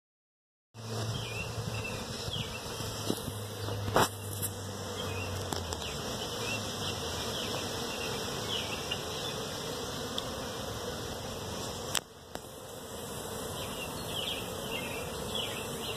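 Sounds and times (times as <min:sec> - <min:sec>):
honeybees buzzing: 0:00.8 - 0:15.9.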